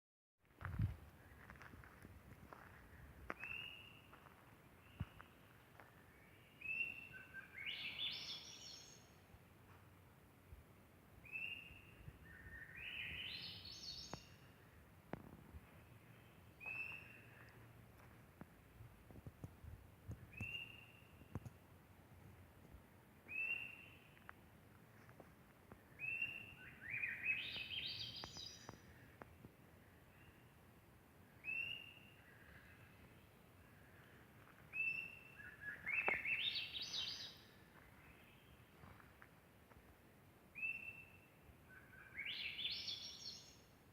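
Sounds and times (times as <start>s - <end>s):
faint background hiss: 0.5s - 43.9s
songbird singing: 2.5s - 9.8s, 10.9s - 19.4s, 20.0s - 21.8s, 22.4s - 43.9s.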